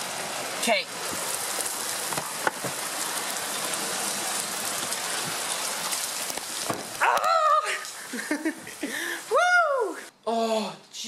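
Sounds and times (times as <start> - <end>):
rain falling: 0.0 - 10.1.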